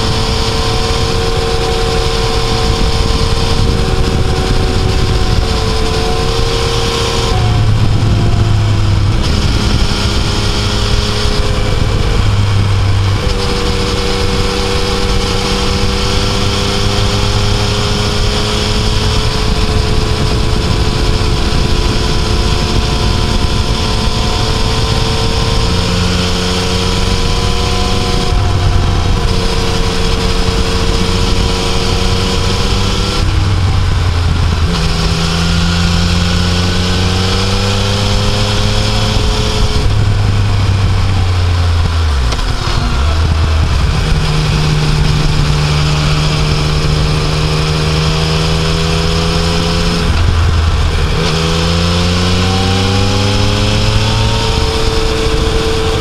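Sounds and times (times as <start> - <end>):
motorcycle engine revving: 0.0 - 56.0
wind rush over microphone: 0.0 - 56.0.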